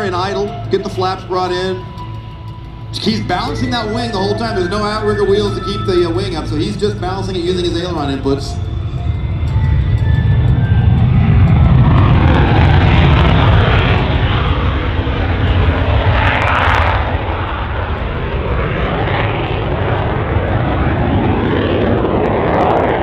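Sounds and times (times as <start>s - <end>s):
jet engine roaring: 0.0s - 23.0s.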